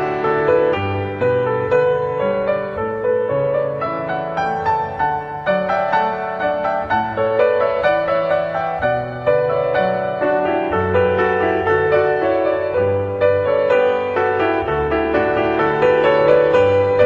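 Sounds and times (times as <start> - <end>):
calm piano music: 0.0 - 17.0.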